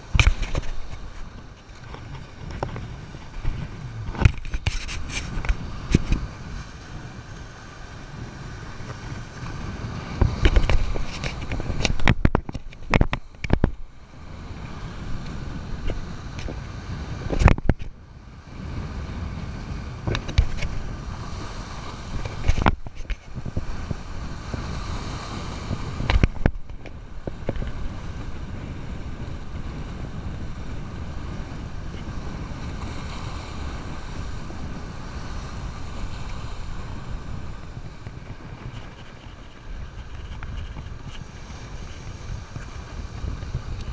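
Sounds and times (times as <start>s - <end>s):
surf washing over boulders: 0.0s - 43.9s
wind buffeting microphone: 0.0s - 43.9s.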